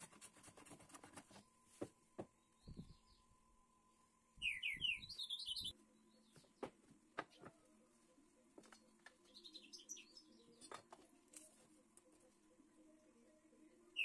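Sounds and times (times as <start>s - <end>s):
songbird chirping: 2.2s - 14.0s.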